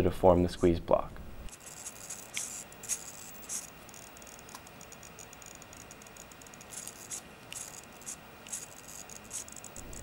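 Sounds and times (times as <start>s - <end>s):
faint rapid mechanical ticking: 1.5s - 10.0s.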